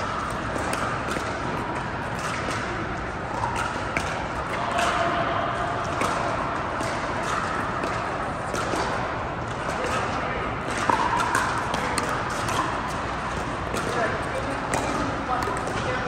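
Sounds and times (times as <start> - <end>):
steady background hum: 0.0 - 16.0
ball bouncing: 0.2 - 5.1, 5.8 - 16.0.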